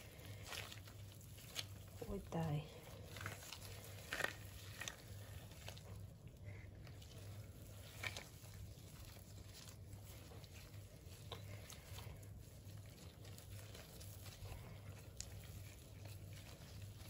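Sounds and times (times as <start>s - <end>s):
wet squelches of kneaded meat: 0.0s - 17.0s.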